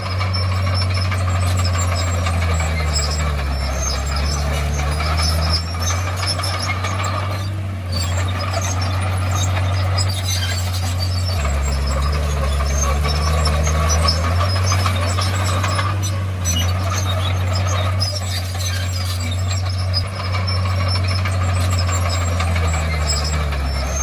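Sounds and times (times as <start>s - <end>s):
bulldozer diesel engine running: 0.0s - 24.0s
metallic clatter: 0.0s - 24.0s.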